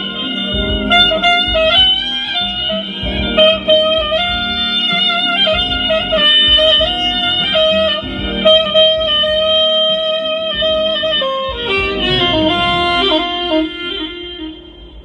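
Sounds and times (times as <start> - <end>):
guitar accompaniment: 0.0 - 15.0
soprano saxophone melody: 0.0 - 15.0.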